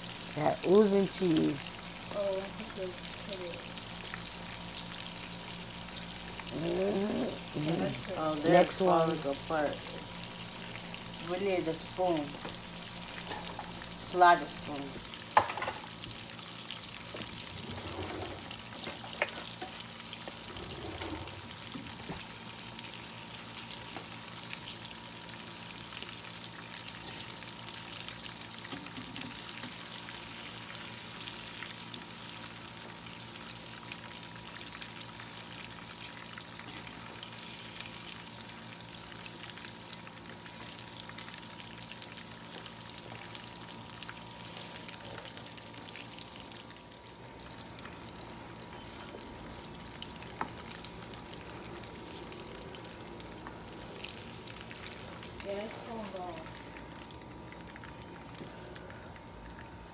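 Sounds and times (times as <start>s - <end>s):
food deep-frying in hot oil: 0.0s - 59.9s.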